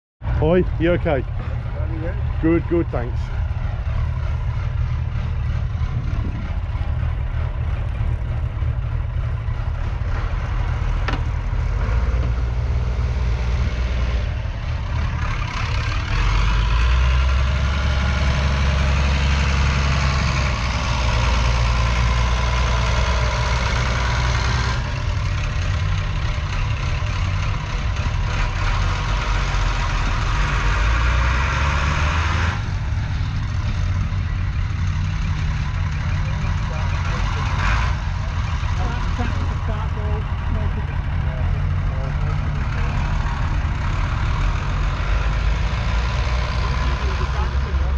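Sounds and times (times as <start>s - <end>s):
tractor diesel engine idling: 0.2s - 13.0s, 14.1s - 31.0s, 32.6s - 47.9s.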